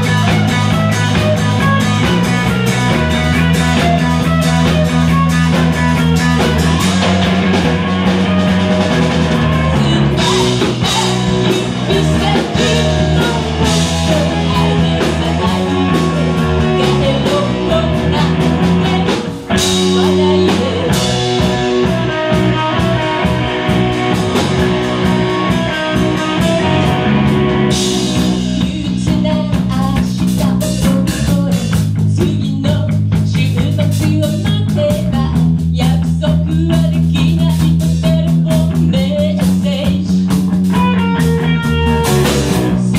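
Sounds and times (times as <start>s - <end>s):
live rock band playing: 0.0s - 42.9s
woman singing lead: 0.0s - 42.9s.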